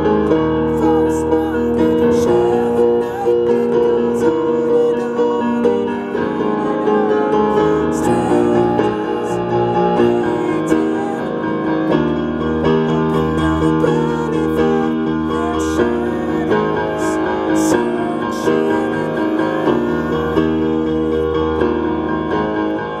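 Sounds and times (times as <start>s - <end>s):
electronic keyboard piano playing: 0.0s - 23.0s.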